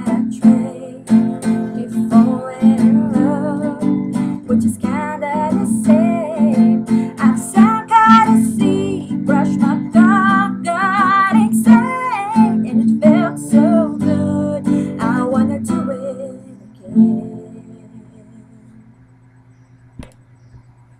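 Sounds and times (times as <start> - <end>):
woman singing: 0.0 - 18.8
strummed acoustic guitar: 0.0 - 19.3.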